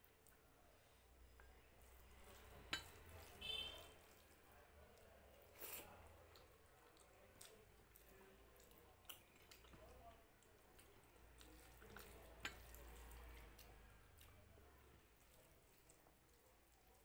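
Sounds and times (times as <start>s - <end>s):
wet squishing of food mixed by hand: 0.0s - 17.0s.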